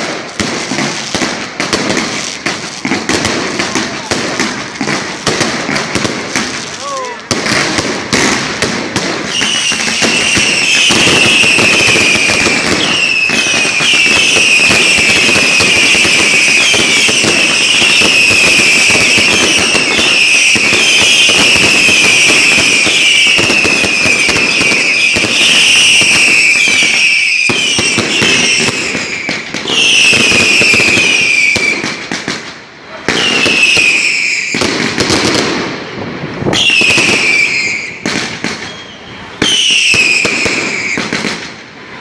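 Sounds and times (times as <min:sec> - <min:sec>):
rattle of firework bangs: 0:00.0 - 0:41.6
whistling fireworks: 0:00.0 - 0:42.0.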